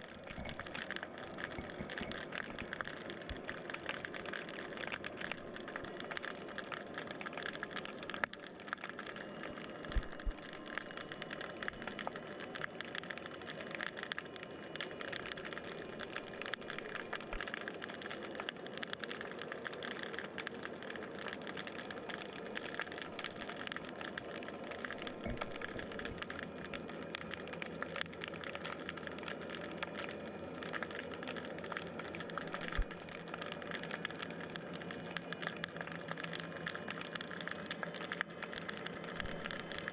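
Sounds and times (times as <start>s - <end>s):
dense underwater crackling hiss: 0.0s - 39.9s
faint steady tones: 0.0s - 39.9s.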